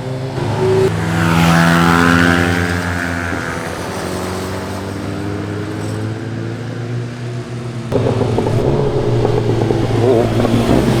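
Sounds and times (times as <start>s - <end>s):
motorcycle passing by accelerating: 0.0s - 11.0s.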